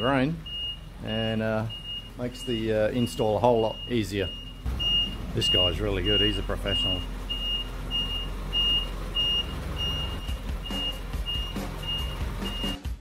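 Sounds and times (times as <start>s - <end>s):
truck reversing alarm beeping: 0.0s - 12.9s
truck engine running: 0.0s - 13.0s.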